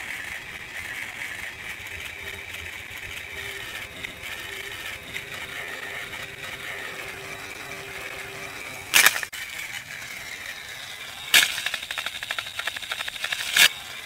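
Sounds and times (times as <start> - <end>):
toy train motor whirring: 0.0 - 14.0.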